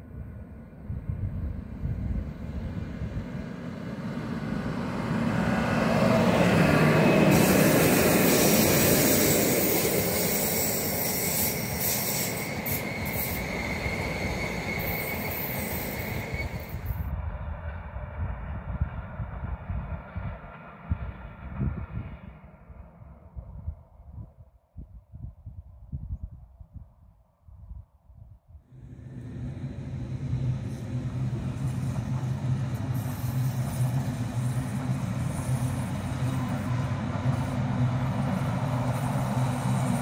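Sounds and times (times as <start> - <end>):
train passing with wheel squeal: 1.7 - 23.1, 28.8 - 40.0.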